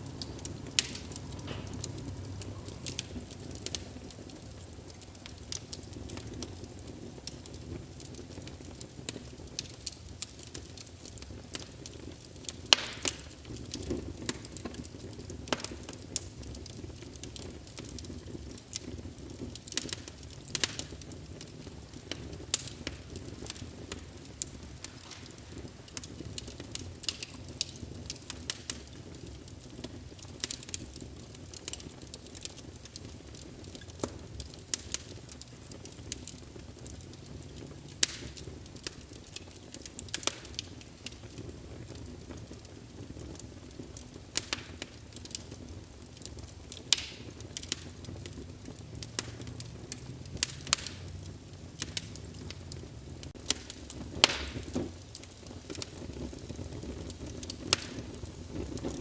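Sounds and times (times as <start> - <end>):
fire pops and snaps: 0.0 - 59.0
low rumble of burning logs: 0.0 - 59.0
wood fire crackling: 0.0 - 59.0.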